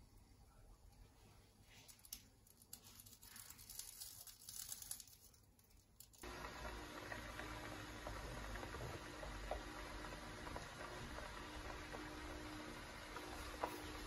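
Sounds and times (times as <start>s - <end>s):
crackling of milk heating in pot: 1.9s - 14.0s.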